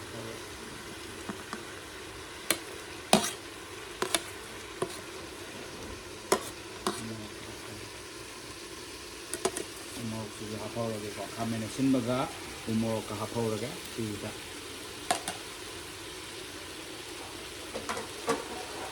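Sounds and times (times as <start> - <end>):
pork sizzling in a pan: 0.0 - 18.9.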